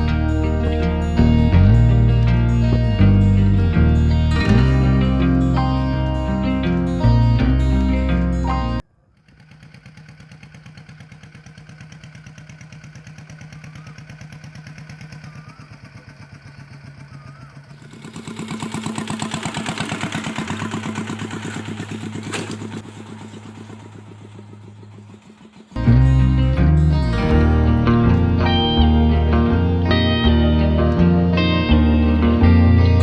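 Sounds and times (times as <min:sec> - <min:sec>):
engine running with rapid pulse: 0:00.0 - 0:33.0.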